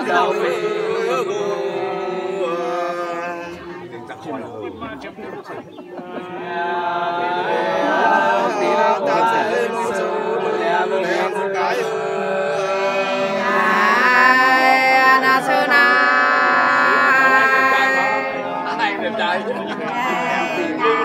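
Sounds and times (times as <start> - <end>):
women singing folk song: 0.0 - 3.9, 6.0 - 19.0, 19.8 - 21.0.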